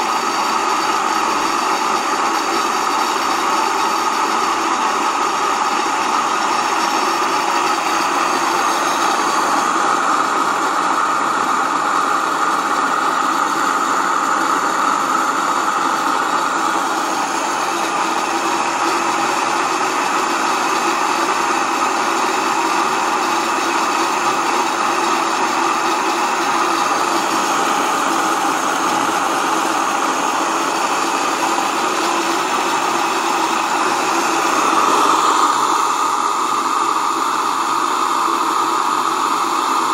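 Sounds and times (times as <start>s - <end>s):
electric grain mill grinding: 0.0s - 39.9s.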